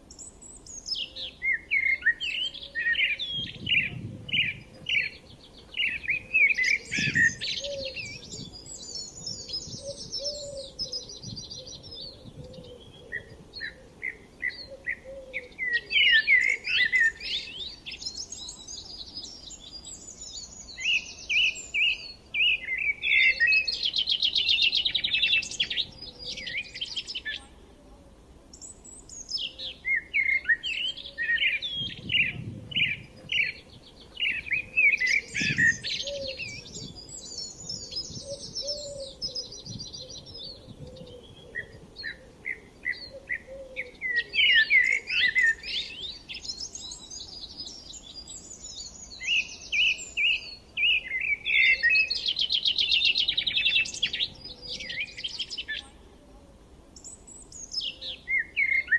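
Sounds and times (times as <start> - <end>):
songbirds chirping and singing: 0.0 - 27.7, 28.5 - 58.9.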